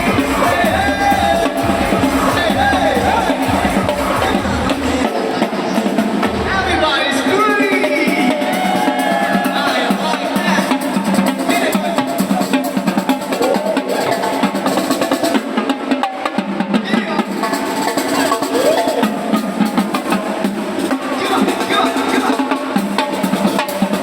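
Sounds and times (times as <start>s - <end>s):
loud amplified music: 0.0s - 24.0s
snare drum rolls and hits: 0.0s - 24.0s.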